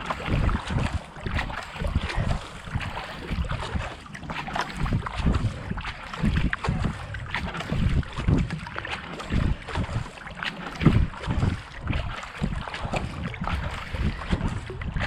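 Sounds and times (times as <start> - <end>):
kayak paddle strokes splashing: 0.0 - 15.0
wind buffeting microphone: 0.0 - 15.0.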